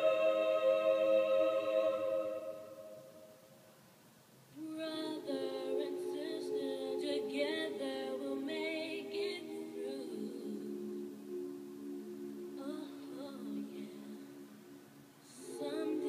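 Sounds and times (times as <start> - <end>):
boys' choir singing a cappella: 0.0 - 2.9, 4.8 - 14.4, 15.3 - 16.0.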